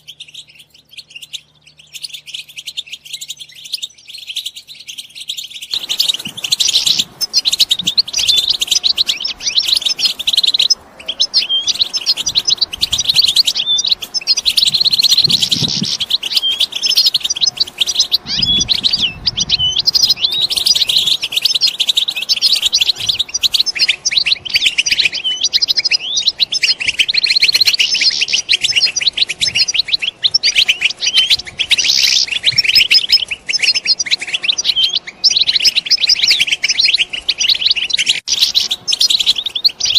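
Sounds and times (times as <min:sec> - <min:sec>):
flock of finches twittering: 0:00.0 - 0:39.9.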